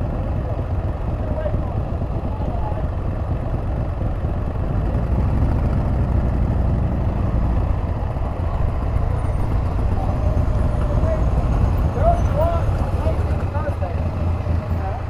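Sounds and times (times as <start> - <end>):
motorcycle engine running: 0.0 - 15.0
road and wind rumble: 0.0 - 15.0.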